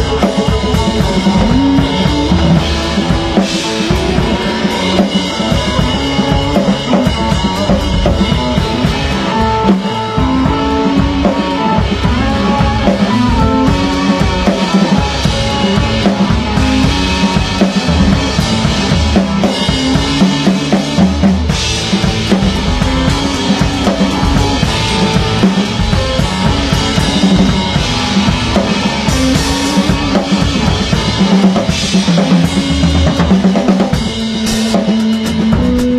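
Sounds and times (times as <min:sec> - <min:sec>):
drum kit beat: 0:00.0 - 0:35.9
live band jamming: 0:00.0 - 0:35.9.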